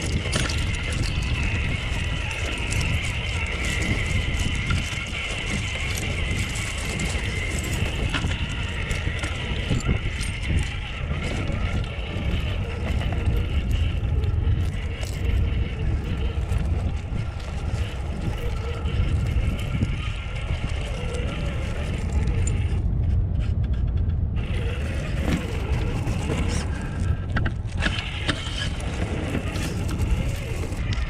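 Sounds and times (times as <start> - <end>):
crunch and clink of stones: 0.0 - 31.0
toy truck rumble: 0.0 - 31.0.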